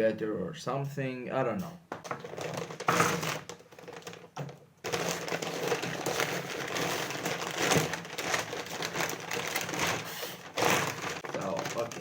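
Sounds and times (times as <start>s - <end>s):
packaging crinkling and rustling: 2.0s - 12.0s.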